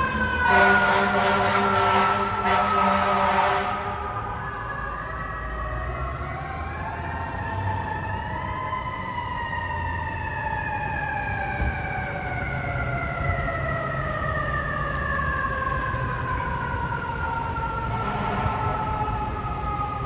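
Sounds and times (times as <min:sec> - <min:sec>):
fire truck siren wailing: 0:00.0 - 0:20.0
street noise: 0:00.0 - 0:20.0.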